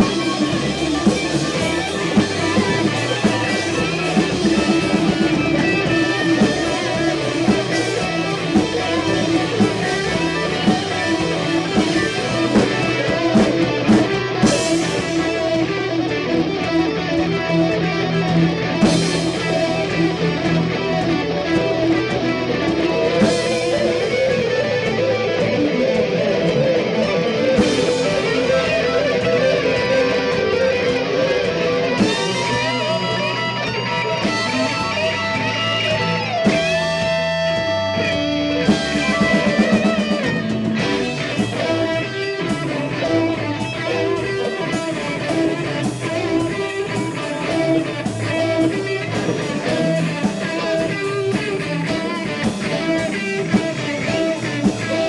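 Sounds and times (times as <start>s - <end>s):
bass guitar: 0.0s - 55.0s
drums: 0.0s - 55.0s
electric guitar: 0.0s - 55.0s.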